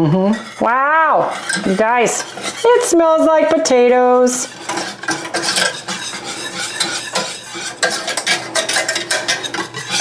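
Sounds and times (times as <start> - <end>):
metal whisk beating in pan: 0.2 - 10.0.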